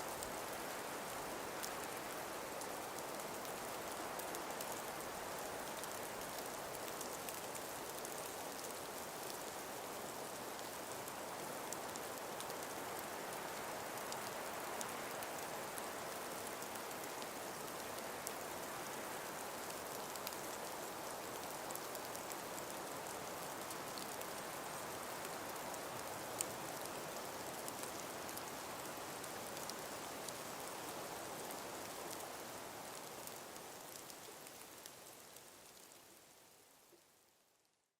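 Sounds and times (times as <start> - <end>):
outdoor ambient hiss: 0.0 - 37.9
light patter ticks: 0.1 - 36.2.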